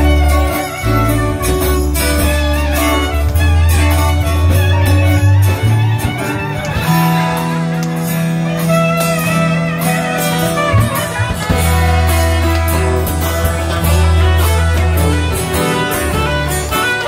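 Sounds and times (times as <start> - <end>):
guitar: 0.0 - 17.0
live band music: 0.0 - 17.0
steady beat: 0.0 - 17.0
sustained bass notes: 0.0 - 17.0.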